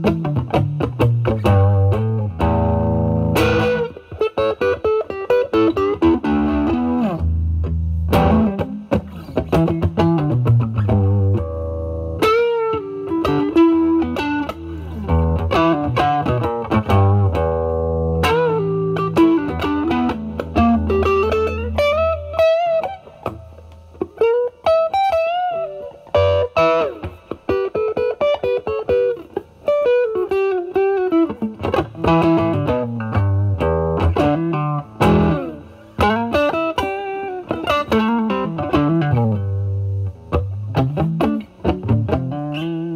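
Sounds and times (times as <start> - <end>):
overdriven electric guitar: 0.0 - 42.9.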